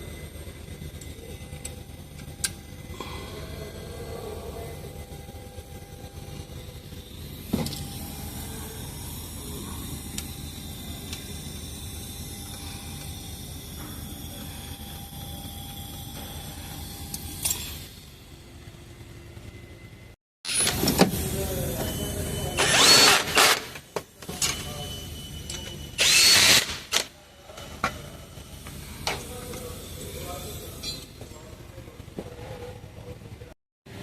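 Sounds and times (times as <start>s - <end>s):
low workshop background noise: 0.0s - 34.0s.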